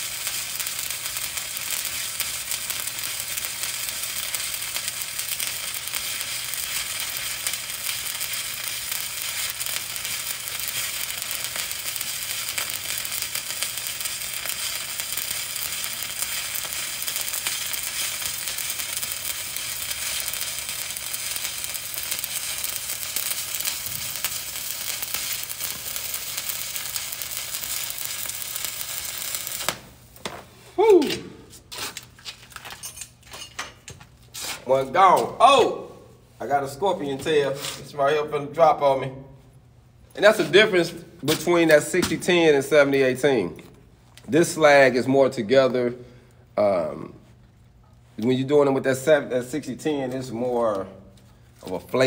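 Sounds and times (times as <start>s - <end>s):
welding arc sizzling: 0.0s - 32.4s, 40.1s - 45.8s, 48.0s - 52.0s.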